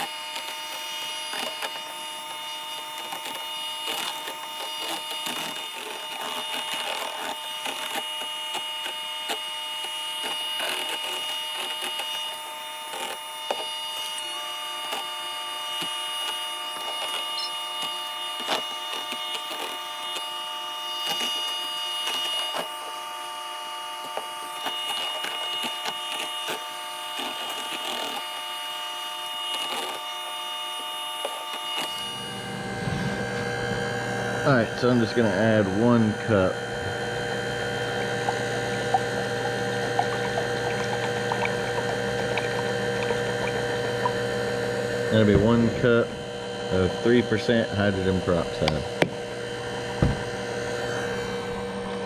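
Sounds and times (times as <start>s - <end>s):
electric hand mixer whine: 0.0s - 52.0s.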